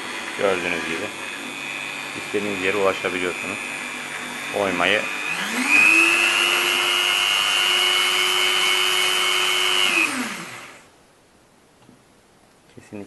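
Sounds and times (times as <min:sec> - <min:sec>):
rotary tool motor whining: 0:00.0 - 0:10.9.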